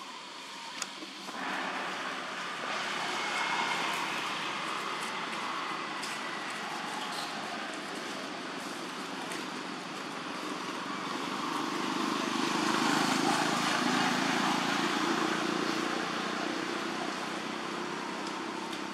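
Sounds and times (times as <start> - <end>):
vehicle passing: 1.3 - 8.8, 9.8 - 18.7.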